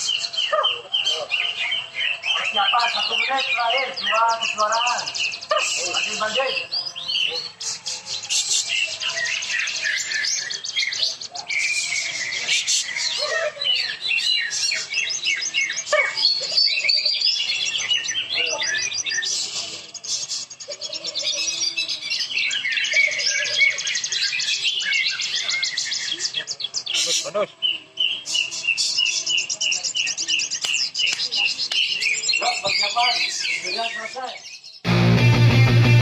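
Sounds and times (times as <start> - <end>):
birds chirping and trilling: 0.0 - 36.0.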